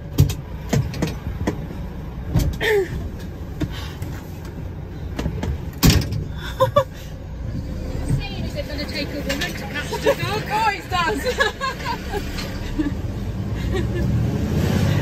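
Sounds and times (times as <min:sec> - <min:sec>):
vehicles passing: 0:00.0 - 0:15.0.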